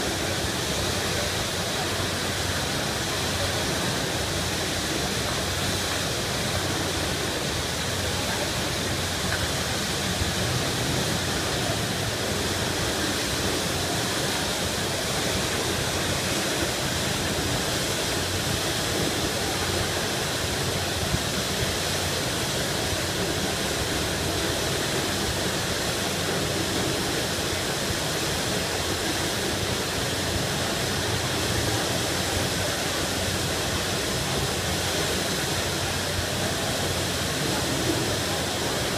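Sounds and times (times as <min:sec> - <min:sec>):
water gushing from hydrant: 0:00.0 - 0:38.9.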